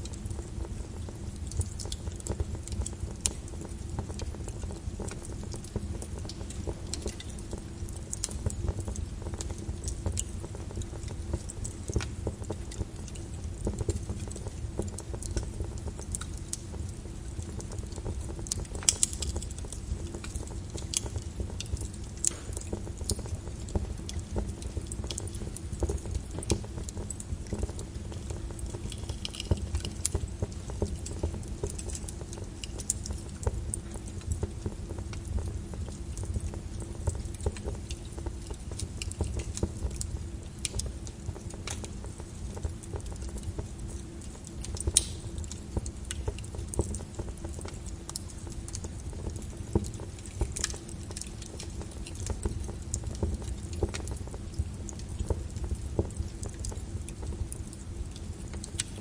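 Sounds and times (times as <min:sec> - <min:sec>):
lava crackling and popping: 0:00.0 - 0:59.0.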